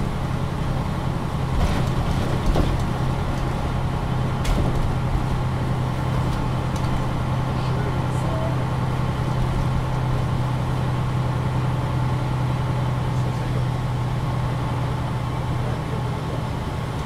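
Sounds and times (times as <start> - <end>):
bus diesel engine humming: 0.0 - 17.0.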